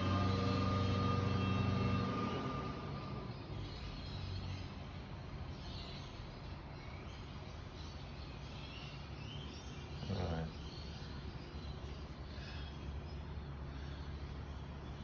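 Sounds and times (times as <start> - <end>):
birds chirping faintly: 0.0 - 15.0
steady low hum: 0.0 - 15.0.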